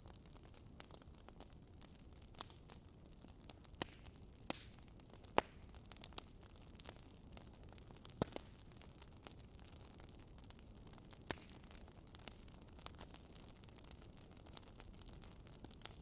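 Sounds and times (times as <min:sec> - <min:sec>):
burning wood crackling: 0:00.0 - 0:16.0.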